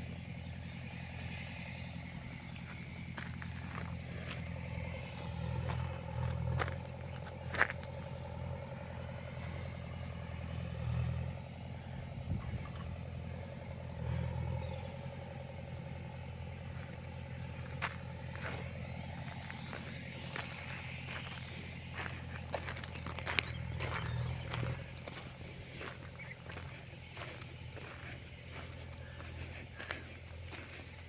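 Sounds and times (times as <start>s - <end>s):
high insect drone: 0.0s - 31.0s
low hum: 0.0s - 31.0s.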